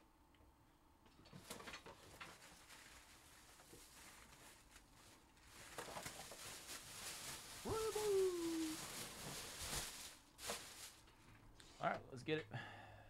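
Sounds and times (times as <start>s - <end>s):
rustling: 1.3s - 11.9s.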